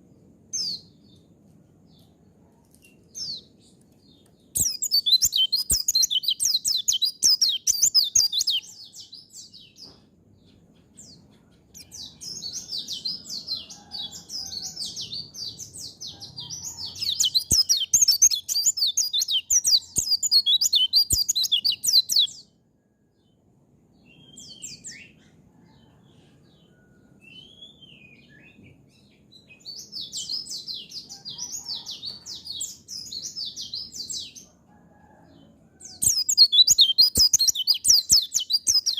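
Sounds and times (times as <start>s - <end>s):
bird twittering song: 0.0s - 22.6s, 24.0s - 35.2s, 35.9s - 38.9s.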